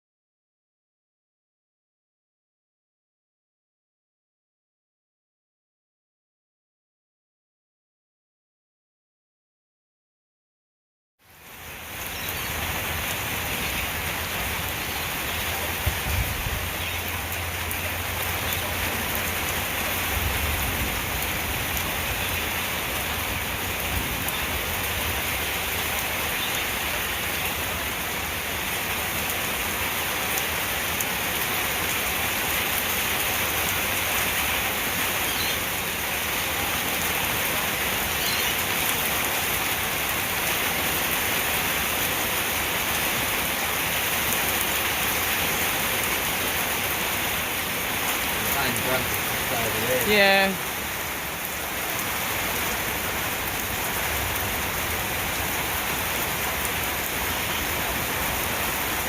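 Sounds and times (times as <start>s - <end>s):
heavy rain falling: 11.2s - 59.0s.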